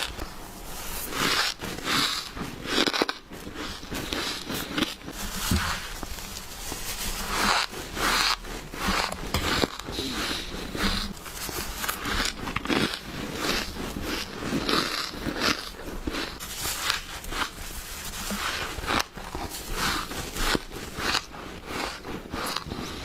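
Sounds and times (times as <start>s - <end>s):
crunching freezer frost: 0.0s - 23.0s.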